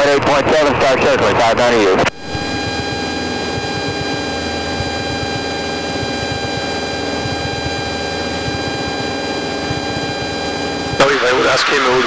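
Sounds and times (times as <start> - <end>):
airplane engine droning in cabin: 0.0 - 11.3.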